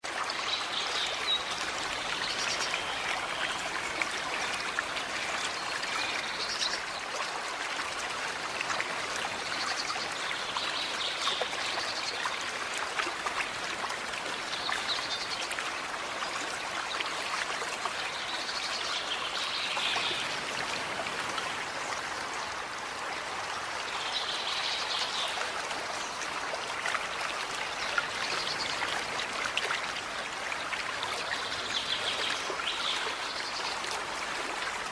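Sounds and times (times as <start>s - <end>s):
forest creek trickling: 0.0s - 34.9s.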